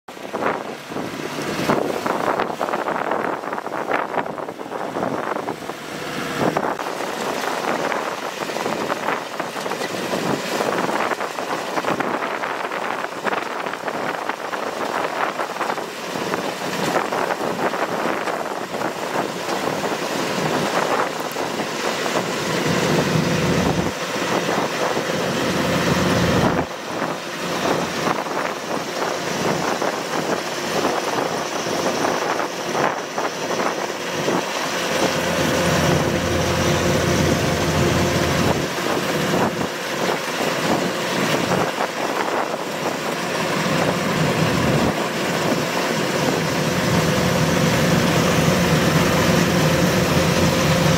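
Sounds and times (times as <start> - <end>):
combine harvester engine running: 0.1 - 50.9
harvesting machinery rattling: 0.2 - 50.9.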